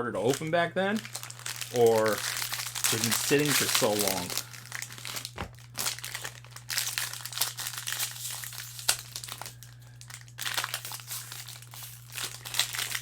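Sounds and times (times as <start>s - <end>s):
card pack wrapper crinkling: 0.2s - 13.0s.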